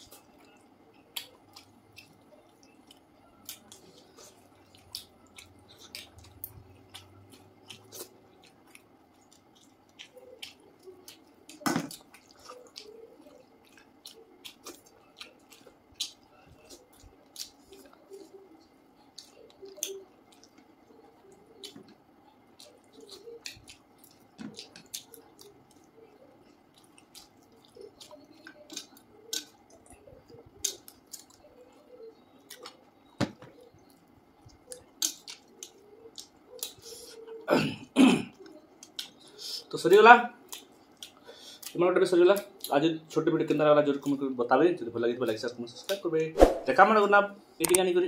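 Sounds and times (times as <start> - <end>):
wet chewing smacks and clicks: 0.0 - 32.9, 33.6 - 36.8, 38.4 - 39.3, 40.4 - 42.7
faint background hum: 0.0 - 48.0.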